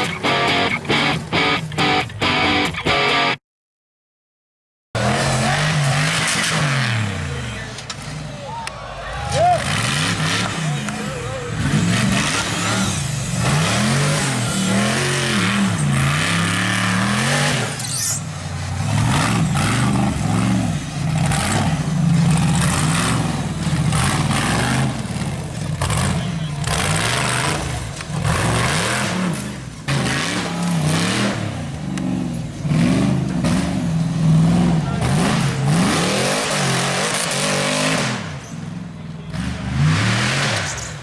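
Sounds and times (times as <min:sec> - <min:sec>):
truck engine revving hard: 0:05.0 - 0:07.6, 0:09.1 - 0:38.4, 0:39.3 - 0:41.0.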